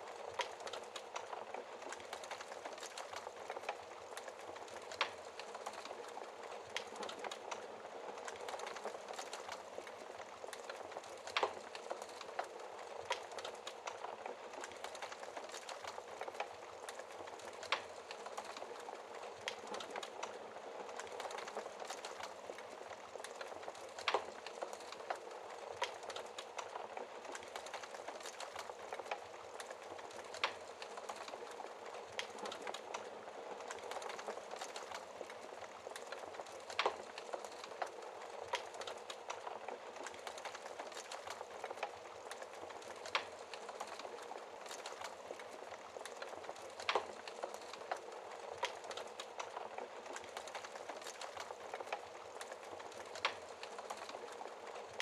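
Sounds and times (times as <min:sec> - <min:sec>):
wood fire crackling: 0:00.0 - 0:55.0
fire snapping loudly: 0:00.1 - 0:55.0.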